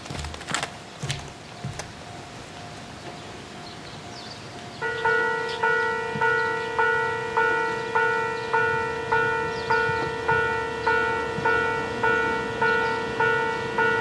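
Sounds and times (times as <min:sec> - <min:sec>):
level crossing warning bell: 0:00.7 - 0:14.0.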